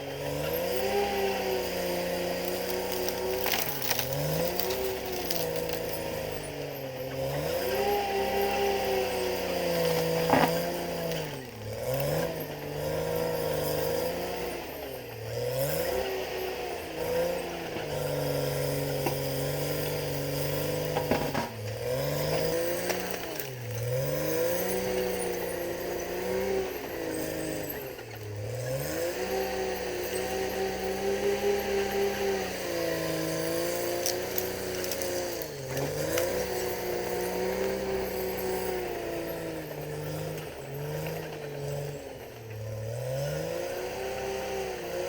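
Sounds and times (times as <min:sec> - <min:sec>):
bulldozer diesel engine at high revs: 0:00.0 - 0:45.0.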